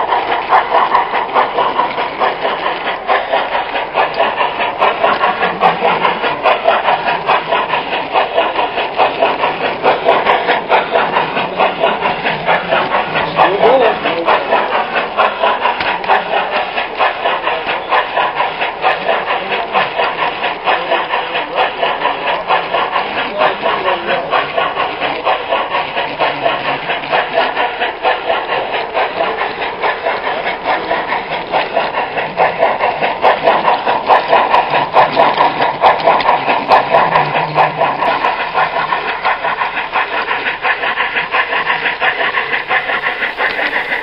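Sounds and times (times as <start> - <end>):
wheels clacking on rails: 0.0 - 44.0.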